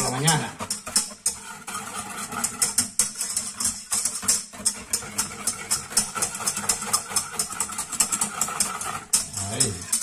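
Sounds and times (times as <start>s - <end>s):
whisk scraping metal pot: 0.0s - 10.0s.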